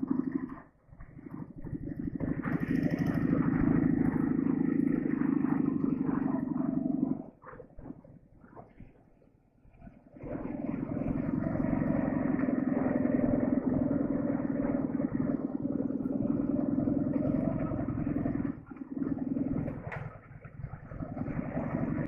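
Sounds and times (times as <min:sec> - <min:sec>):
motorcycle engine running: 0:00.0 - 0:09.0, 0:09.7 - 0:22.0.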